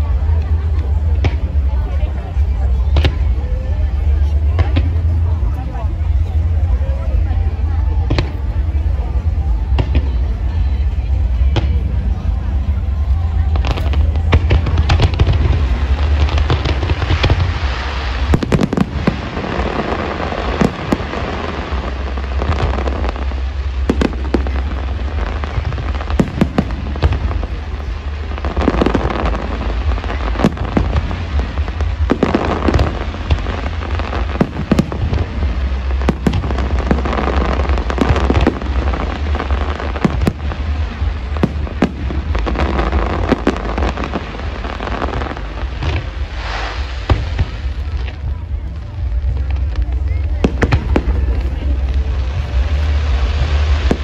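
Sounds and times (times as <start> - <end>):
deep rumble: 0.0 - 54.0
fireworks bangs and crackling: 0.0 - 54.0.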